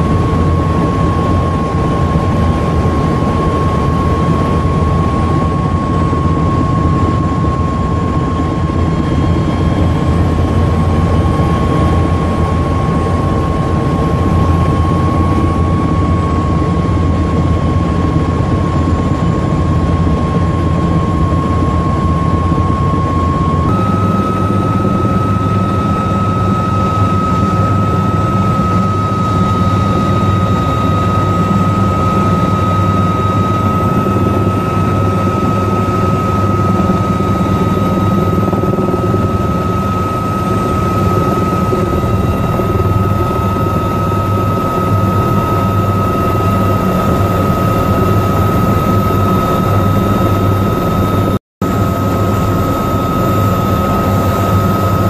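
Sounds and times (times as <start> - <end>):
helicopter engines and rotor: 0.0 - 55.0
high turbine whine: 0.0 - 55.0.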